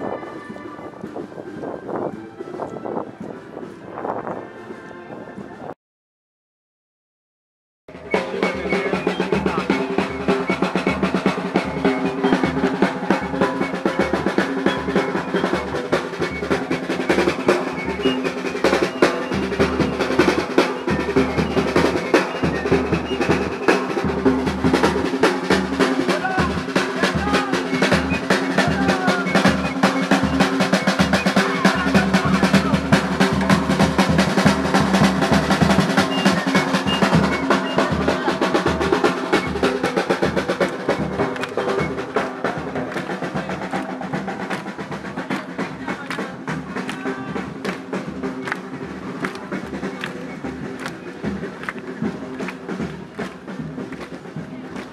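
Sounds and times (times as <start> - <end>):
drum band playing: 7.9 - 54.9.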